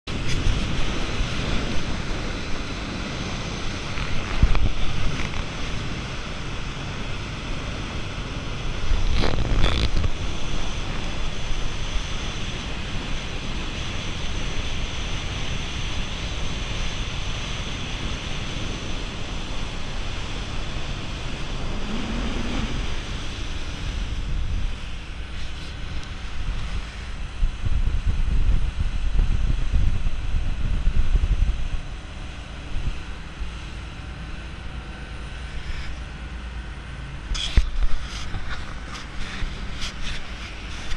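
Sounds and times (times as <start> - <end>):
wind noise on microphone: 0.0 - 40.9
bow wave rushing along hull: 0.1 - 40.9.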